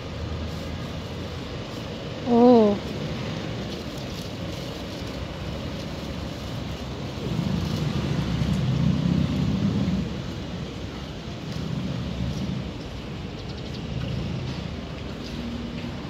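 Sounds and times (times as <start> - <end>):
passing vehicle rumble: 0.0 - 16.0
road traffic: 0.0 - 16.0.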